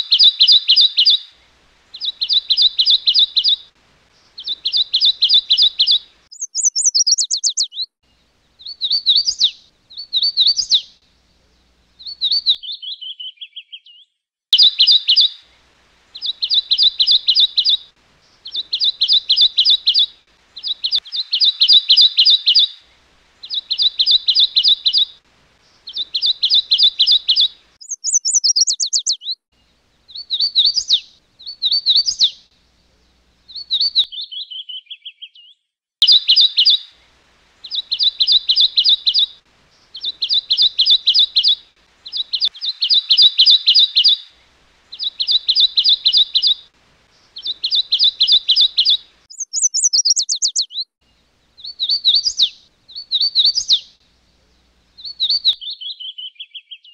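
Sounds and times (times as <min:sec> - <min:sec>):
warbler singing trills: 0:00.0 - 0:01.2, 0:01.9 - 0:15.3, 0:16.1 - 0:37.0, 0:37.6 - 0:56.9.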